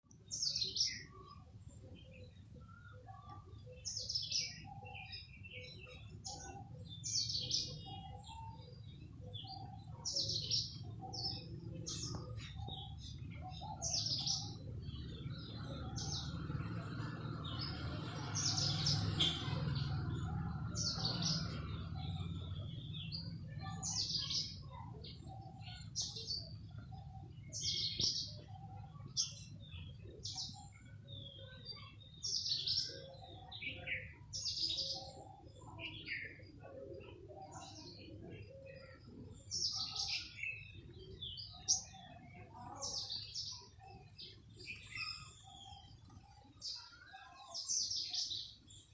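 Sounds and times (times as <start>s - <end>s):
small songbird chirping: 0.0s - 48.9s.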